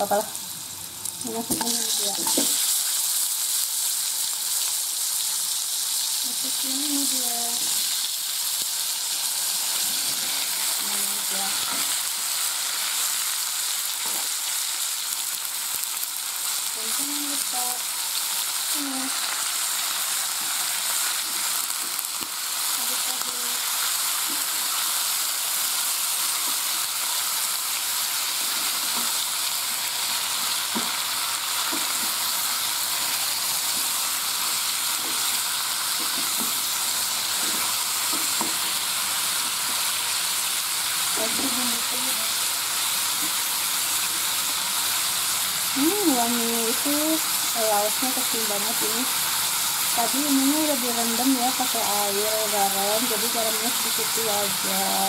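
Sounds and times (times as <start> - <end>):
vegetables sizzling in hot oil: 0.0 - 55.0.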